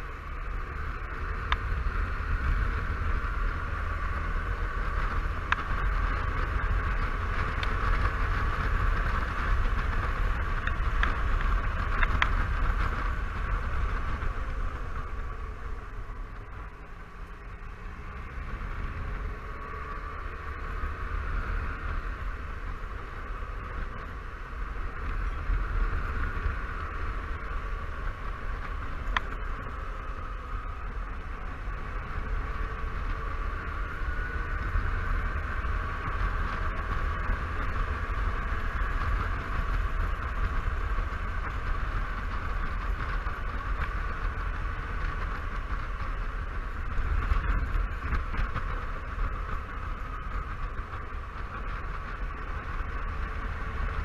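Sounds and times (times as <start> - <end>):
scooter engine humming: 0.0 - 54.0
wind rumbling on microphone: 0.0 - 54.0.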